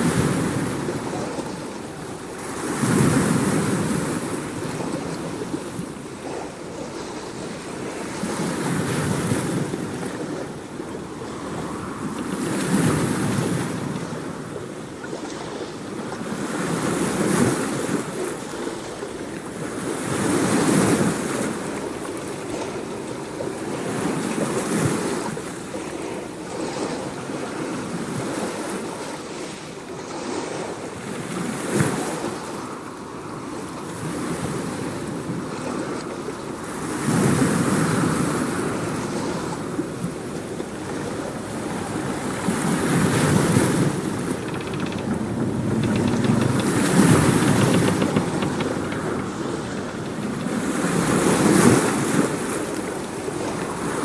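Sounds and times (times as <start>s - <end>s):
ocean waves washing: 0.0s - 54.0s.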